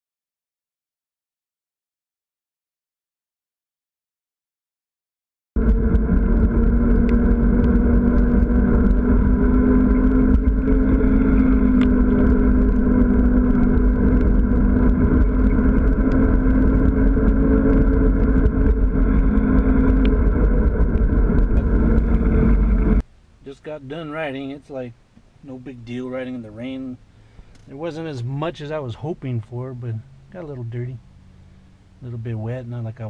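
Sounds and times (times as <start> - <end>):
low hum: 5.6 - 33.0
wind and tyre noise: 5.6 - 33.0.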